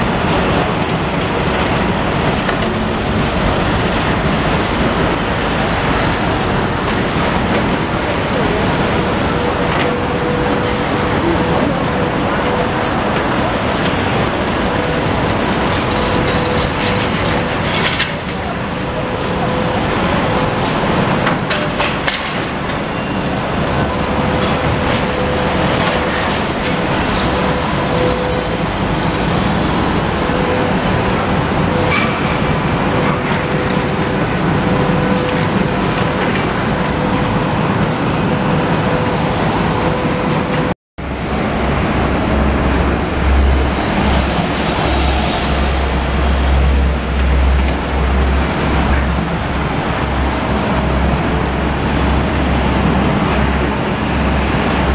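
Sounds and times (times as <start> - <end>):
engine drone: 0.0 - 54.9
street traffic rumble: 0.0 - 54.9.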